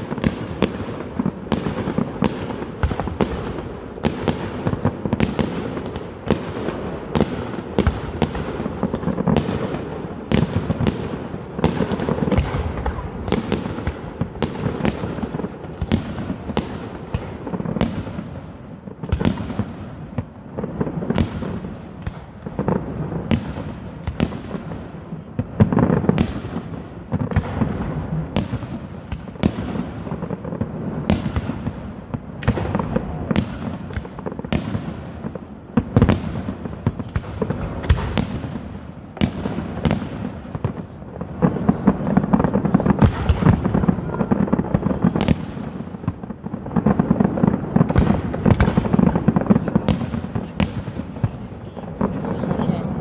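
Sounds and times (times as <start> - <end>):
fireworks crackle: 0.0 - 53.0.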